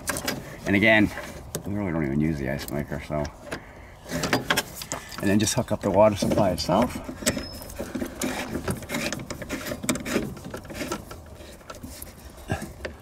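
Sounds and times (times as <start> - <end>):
hands threading plastic fitting: 0.0 - 13.0
rubbing against wires and hoses: 0.0 - 13.0.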